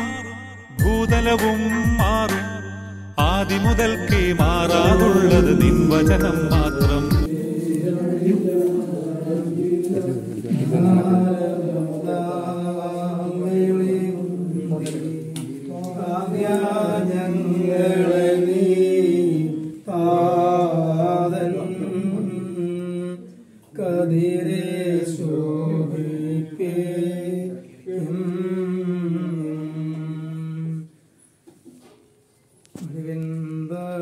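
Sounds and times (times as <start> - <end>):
person singing devotional song: 0.0 - 30.9, 32.7 - 34.0.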